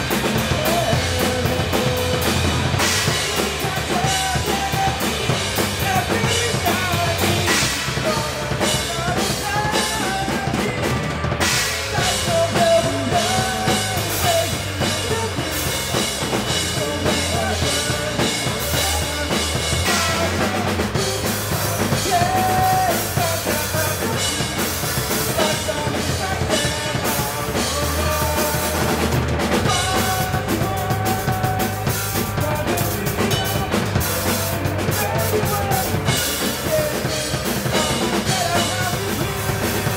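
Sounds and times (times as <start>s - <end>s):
bass drum and snare beat: 0.0s - 39.9s
live rock band playing: 0.0s - 39.9s.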